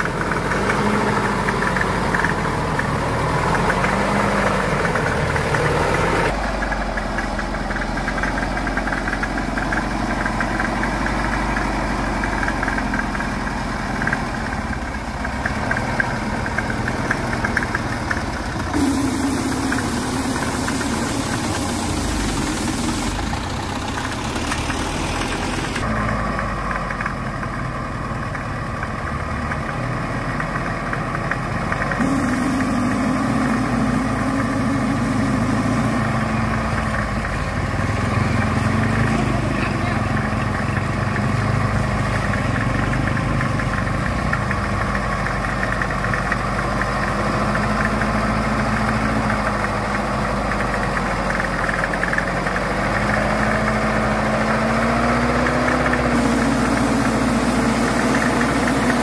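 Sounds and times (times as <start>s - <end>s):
diesel truck engine knocking: 0.0s - 59.0s.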